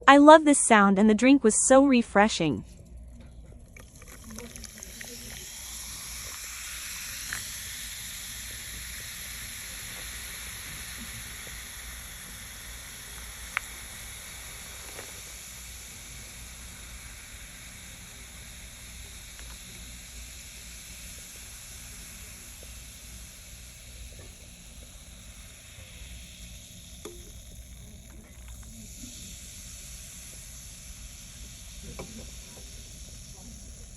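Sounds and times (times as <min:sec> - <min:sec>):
carbonated soda fizzing: 0:03.5 - 0:33.9.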